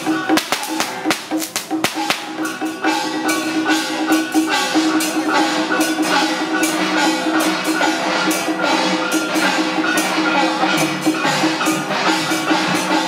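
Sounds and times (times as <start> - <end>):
percussion strikes: 0.0 - 13.0
sustained melody line: 0.0 - 13.0.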